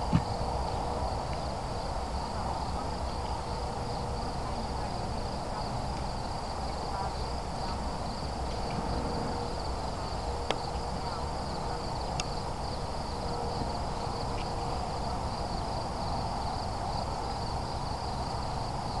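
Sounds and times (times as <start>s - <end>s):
insects trilling: 0.0s - 19.0s
low background rumble: 0.0s - 19.0s.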